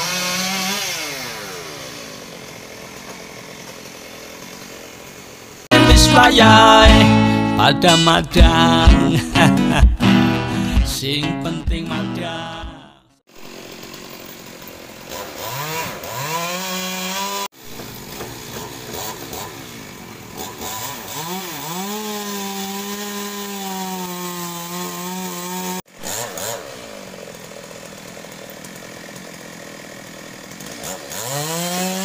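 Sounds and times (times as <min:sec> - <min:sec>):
chainsaw cutting wood: 0:00.0 - 0:08.8, 0:13.3 - 0:32.0.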